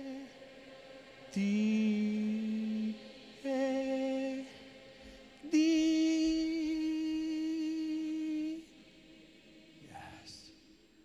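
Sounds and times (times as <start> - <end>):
man singing sustained notes: 0.0 - 11.0.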